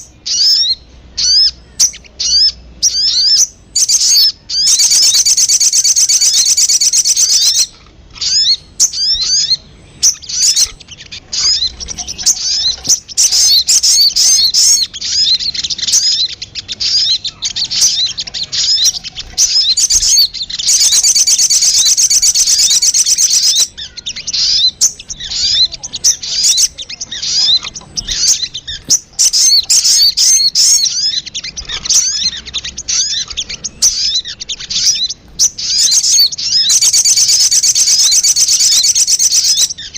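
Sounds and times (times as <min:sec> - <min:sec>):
bird high trill: 0:00.0 - 0:39.9
sharp high bird chirps: 0:00.0 - 0:39.9.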